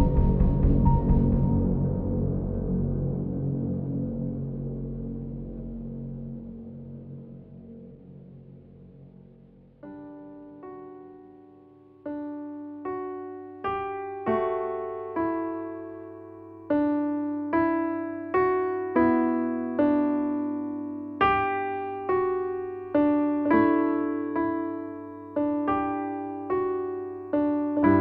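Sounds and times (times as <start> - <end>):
slow piano music: 0.0 - 28.0.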